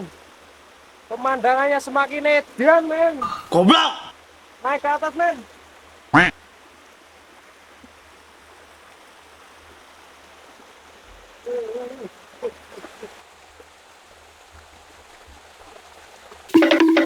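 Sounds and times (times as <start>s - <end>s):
forest stream rushing: 0.0s - 14.5s.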